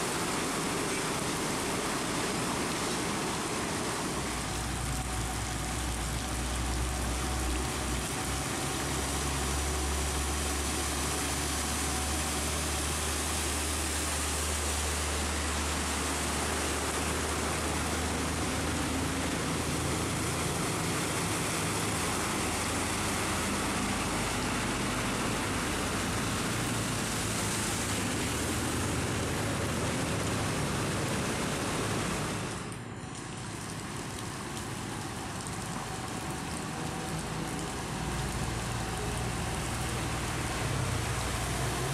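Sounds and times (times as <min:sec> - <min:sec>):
heavy rain hissing: 0:00.0 - 0:41.9
vehicle engine drone: 0:00.0 - 0:41.9.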